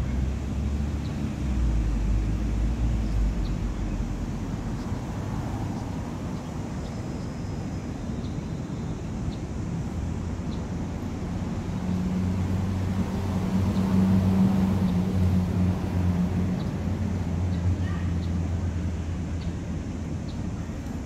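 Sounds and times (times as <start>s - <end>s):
low engine hum: 0.0s - 21.0s
outdoor background noise: 0.0s - 21.0s.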